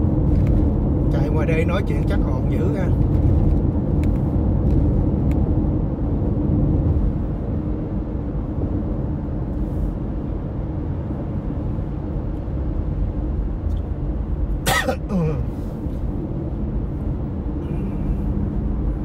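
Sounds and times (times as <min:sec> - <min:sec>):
road and engine rumble inside car: 0:00.0 - 0:19.0.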